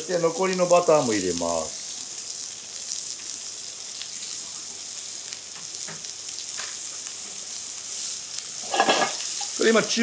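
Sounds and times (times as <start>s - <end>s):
onions sizzling in a frying pan: 0.0s - 10.0s.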